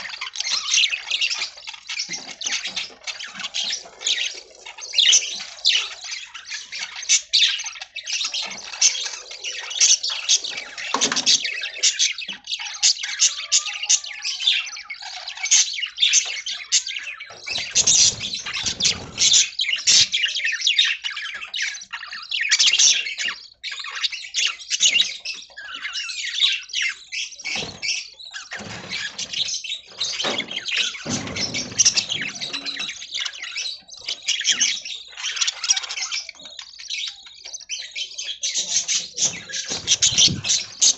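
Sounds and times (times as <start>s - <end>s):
budgerigars chirping: 0.0s - 40.9s
low noisy bird sounds: 0.0s - 40.9s.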